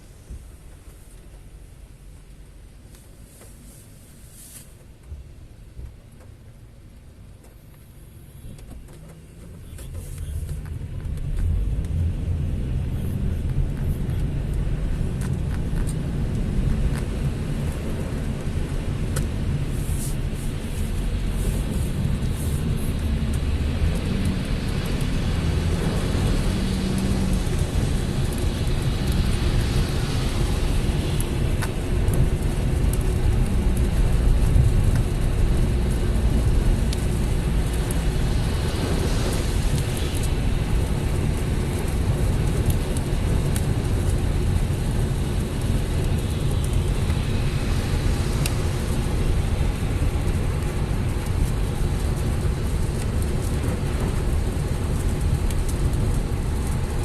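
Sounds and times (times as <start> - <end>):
car driving road noise: 0.0 - 57.0.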